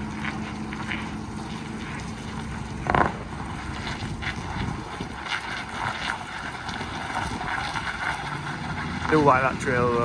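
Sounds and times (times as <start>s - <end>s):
tractor engine rumbling: 0.0s - 10.0s
wind buffeting microphone: 0.0s - 10.0s.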